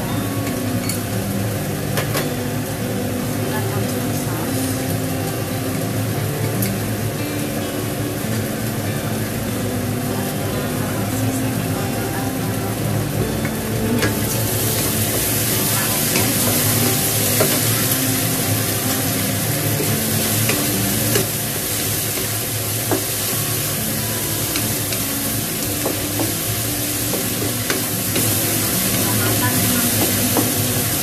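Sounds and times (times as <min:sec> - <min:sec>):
mushrooms sizzling in a wok: 0:00.0 - 0:31.0.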